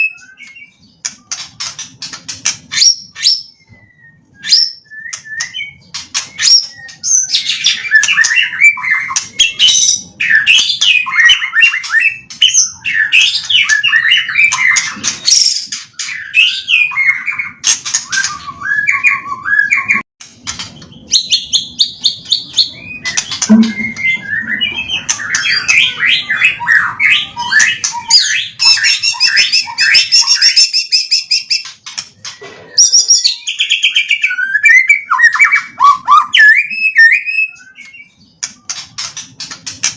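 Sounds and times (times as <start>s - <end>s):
songbird singing whistles and trills: 0.0s - 2.1s, 2.7s - 20.0s, 20.8s - 32.0s, 32.7s - 39.1s.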